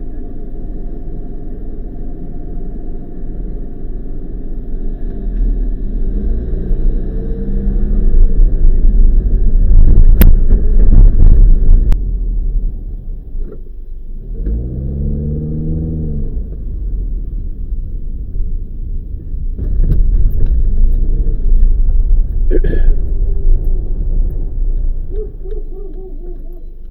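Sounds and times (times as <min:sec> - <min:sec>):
vehicle engine and road rumble: 0:00.0 - 0:26.9.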